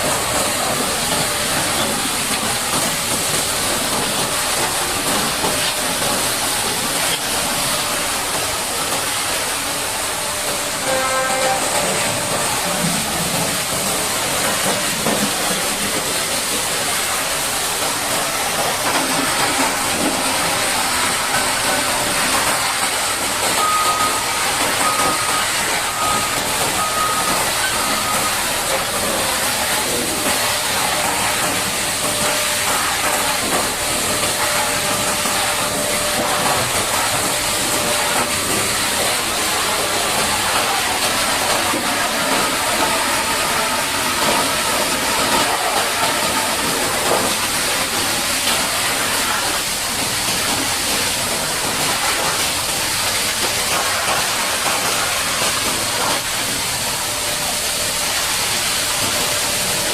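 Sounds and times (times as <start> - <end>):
high-pressure water jet hissing: 0.0 - 59.9.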